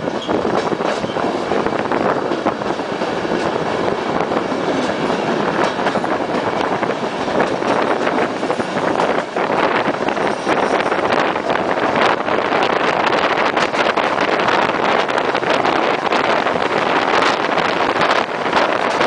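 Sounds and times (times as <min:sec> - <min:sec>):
sharp rail clacks: 0:00.0 - 0:19.0
train wheel and rail noise: 0:00.0 - 0:19.0.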